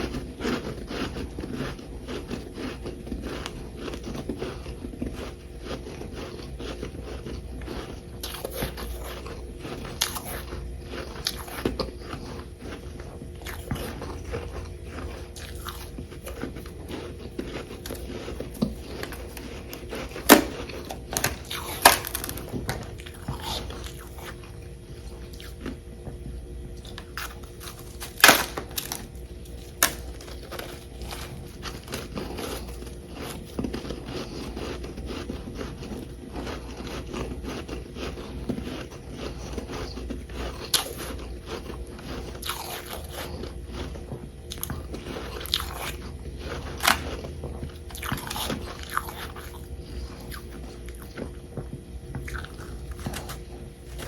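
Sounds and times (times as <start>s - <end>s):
crunchy chewing of ice: 0.0s - 54.0s.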